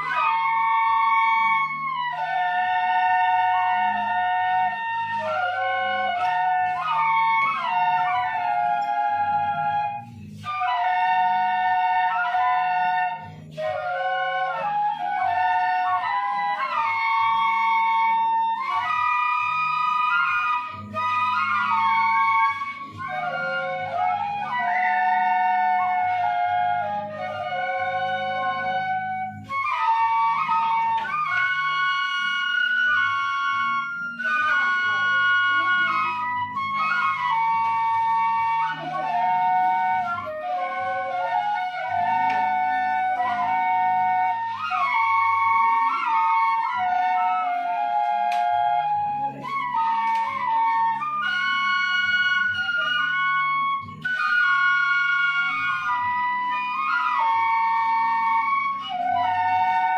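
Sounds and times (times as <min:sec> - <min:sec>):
bamboo flutes ensemble: 0:00.0 - 0:59.9.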